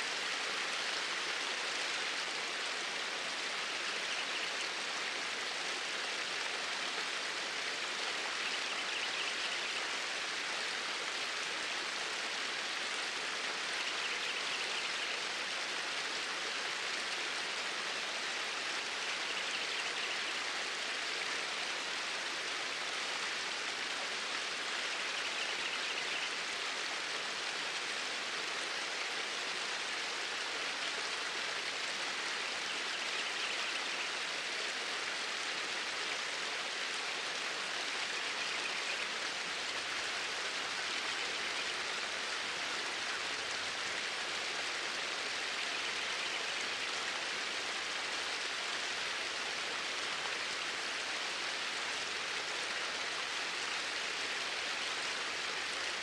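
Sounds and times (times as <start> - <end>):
stream rushing water: 0.0 - 56.0.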